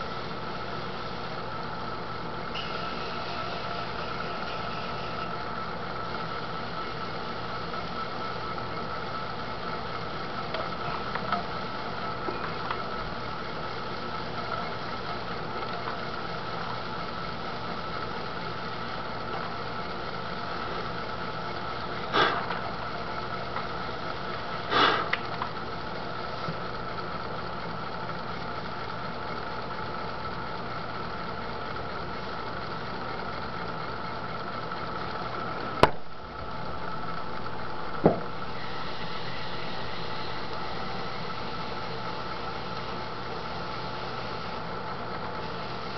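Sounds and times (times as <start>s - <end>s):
potter's wheel motor whining: 0.0s - 45.9s.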